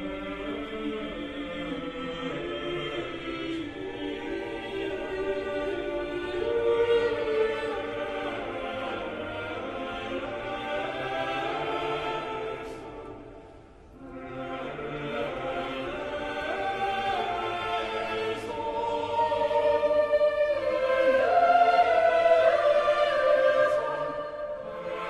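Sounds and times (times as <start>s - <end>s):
church choir singing: 0.0s - 25.0s.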